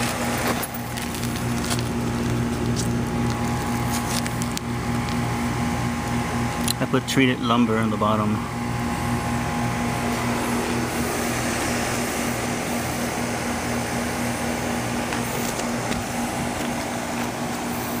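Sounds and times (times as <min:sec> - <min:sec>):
air conditioner hum: 0:00.0 - 0:18.0
fan rushing: 0:00.0 - 0:18.0.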